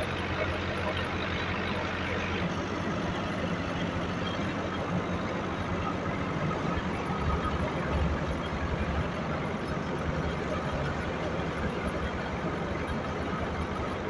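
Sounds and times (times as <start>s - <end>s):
tractor engine drone: 0.0s - 14.0s.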